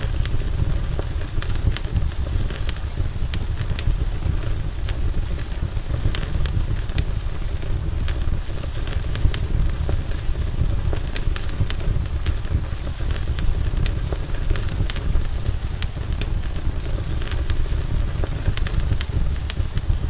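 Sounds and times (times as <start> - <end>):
campfire crackling and popping: 0.0 - 20.0
low fire rumble: 0.0 - 20.0.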